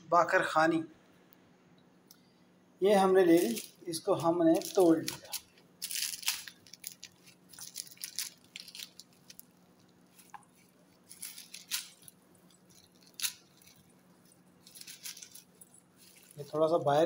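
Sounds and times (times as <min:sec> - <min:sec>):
bread crackling and crunching: 0:02.9 - 0:17.0.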